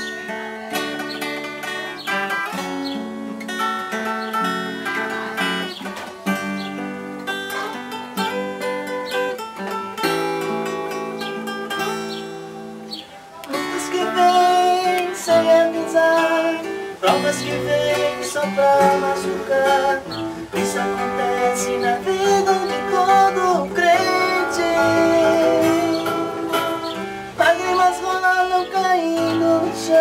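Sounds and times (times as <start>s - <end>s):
acoustic guitars playing chords: 0.0s - 30.0s.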